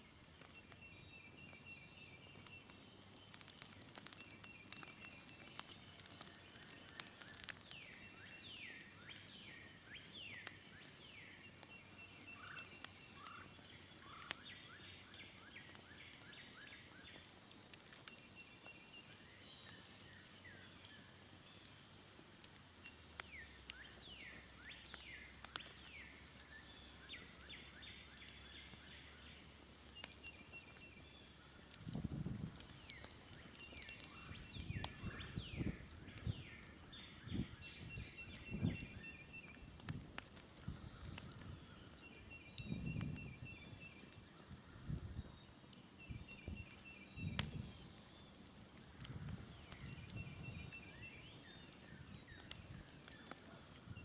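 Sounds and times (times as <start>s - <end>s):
songbirds singing trills: 0.0s - 21.9s, 22.5s - 54.0s
faint campfire crackle: 0.0s - 54.0s.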